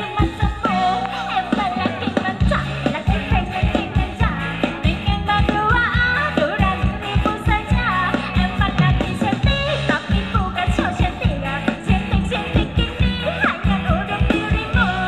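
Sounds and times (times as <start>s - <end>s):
live band playing upbeat music: 0.0s - 15.0s
person singing: 0.0s - 15.0s.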